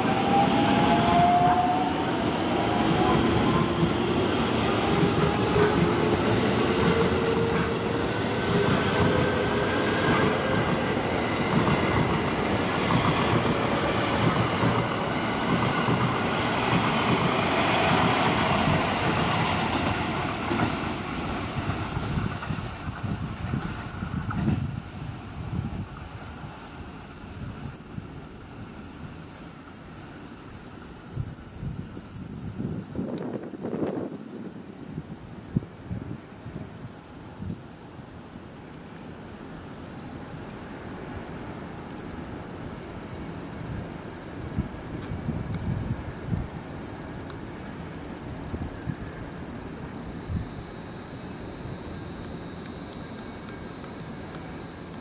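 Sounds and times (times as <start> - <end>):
electric train rumbling past: 0.0 - 55.0.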